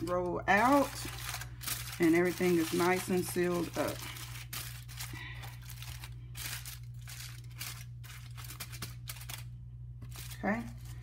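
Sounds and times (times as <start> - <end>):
aluminium foil crinkling: 0.0 - 11.0
steady low hum: 0.0 - 11.0.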